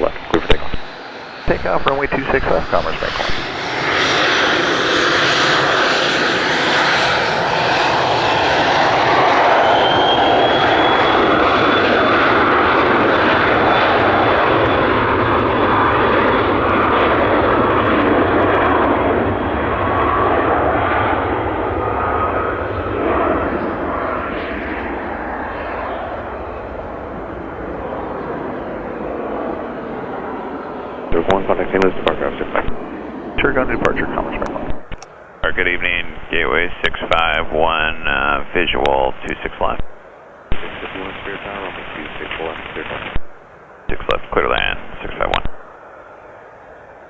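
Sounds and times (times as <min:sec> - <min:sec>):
high turbine whine: 0:00.0 - 0:47.0
jet engines roaring at takeoff: 0:00.0 - 0:47.0.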